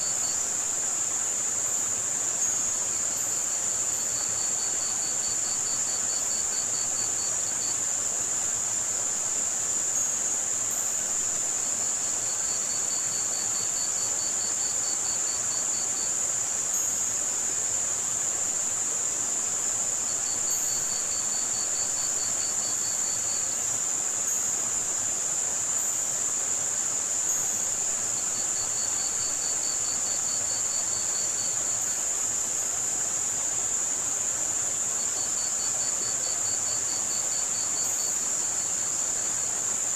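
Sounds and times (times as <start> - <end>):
crickets trilling: 0.0 - 39.9
high-pitched white noise: 0.0 - 39.9.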